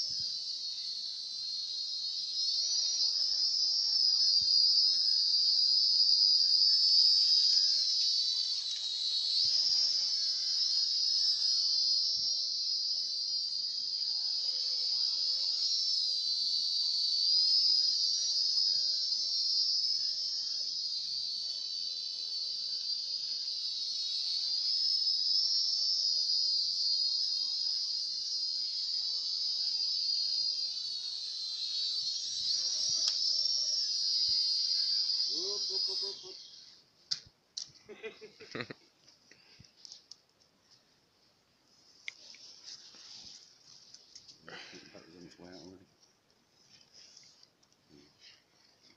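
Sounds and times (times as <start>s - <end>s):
toy drone propellers whining: 0.0s - 36.8s, 42.1s - 45.8s.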